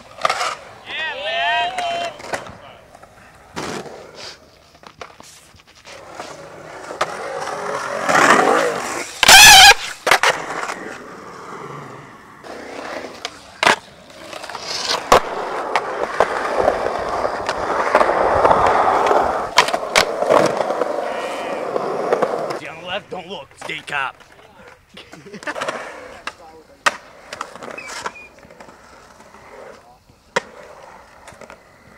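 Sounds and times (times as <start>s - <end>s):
skateboard clacking: 0.0s - 4.0s, 6.8s - 11.1s, 12.4s - 31.9s
skateboard grinding on coping: 0.0s - 31.9s
skateboard wheels rolling: 0.0s - 31.9s.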